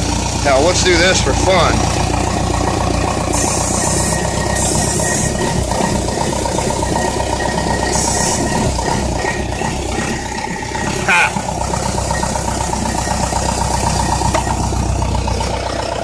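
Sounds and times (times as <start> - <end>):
diesel engine running: 0.0 - 16.0
starter motor whine: 0.0 - 16.0.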